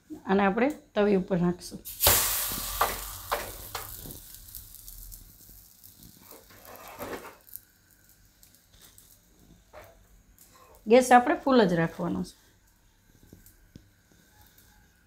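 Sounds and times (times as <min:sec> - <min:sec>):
dough sizzling on hot iron: 0:01.8 - 0:15.0.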